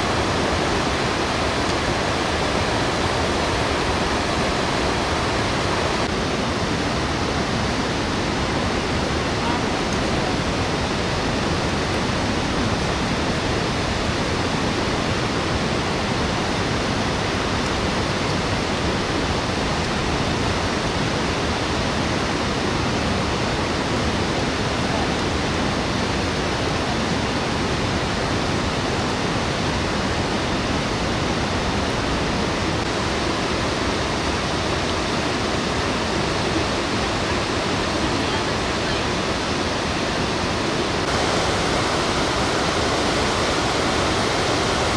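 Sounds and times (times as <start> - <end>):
river rushing over rocks: 0.0 - 44.9.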